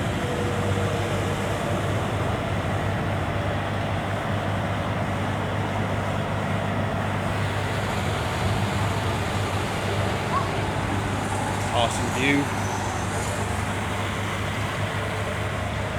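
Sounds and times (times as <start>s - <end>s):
road traffic drone: 0.0s - 15.9s.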